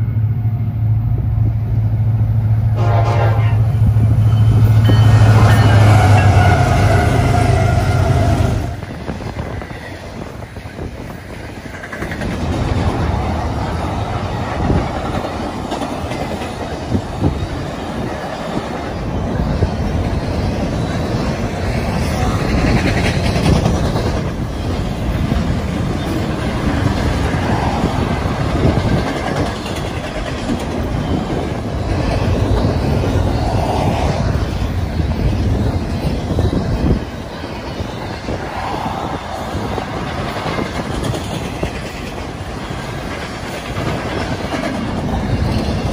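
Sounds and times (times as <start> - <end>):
diesel locomotive engine: 0.0 - 45.9
freight train wheels clicking: 3.7 - 45.9.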